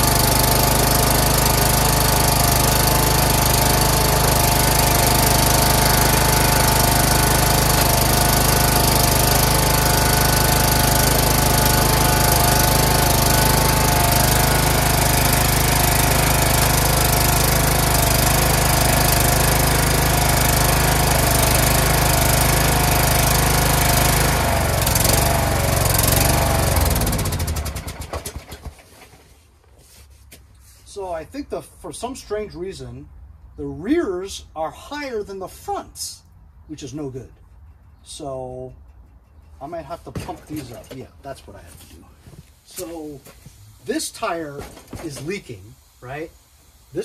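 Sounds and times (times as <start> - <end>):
lawn tractor engine running: 0.0 - 29.4, 37.4 - 47.0.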